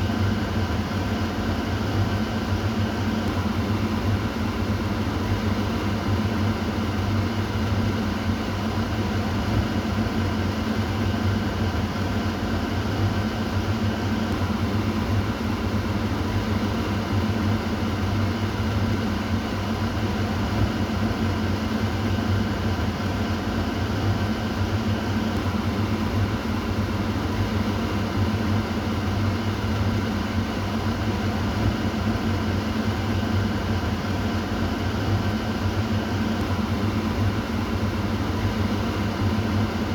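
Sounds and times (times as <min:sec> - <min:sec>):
kitchen exhaust fan humming: 0:00.0 - 0:39.9.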